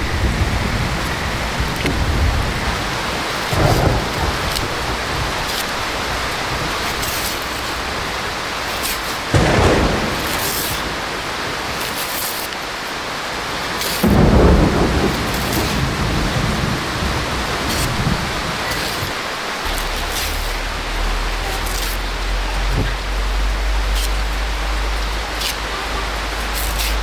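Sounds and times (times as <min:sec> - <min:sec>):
low rumbles: 0:00.0 - 0:12.0, 0:14.0 - 0:27.0
heavy rain pouring: 0:00.0 - 0:27.0.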